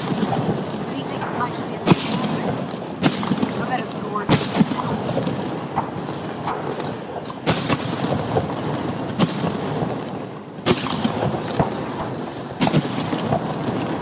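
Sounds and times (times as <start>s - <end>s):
continuous noisy din: 0.0s - 14.0s
firework shells booming: 0.0s - 14.0s.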